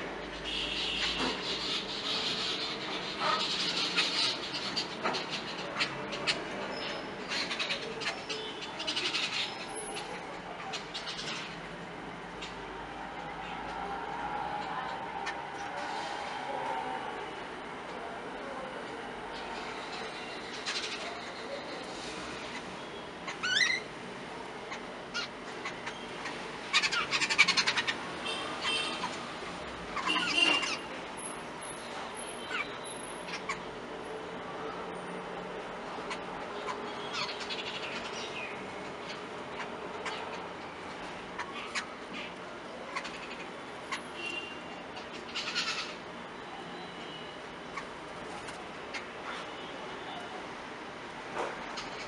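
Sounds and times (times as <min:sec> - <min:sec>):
birds chattering harshly: 0:00.1 - 0:12.7, 0:18.9 - 0:34.4, 0:35.6 - 0:50.1, 0:51.6 - 0:52.0.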